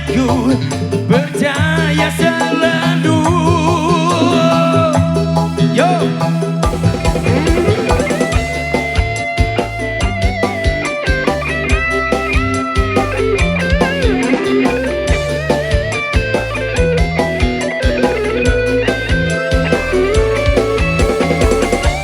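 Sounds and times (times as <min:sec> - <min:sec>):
bass: 0:00.0 - 0:22.0
guitar lead melody: 0:00.0 - 0:22.0
steady drum beat: 0:00.0 - 0:22.0.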